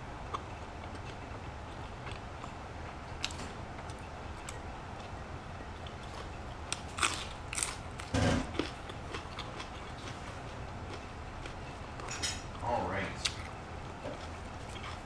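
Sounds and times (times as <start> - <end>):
chewing: 0.2 - 12.6, 13.2 - 15.0.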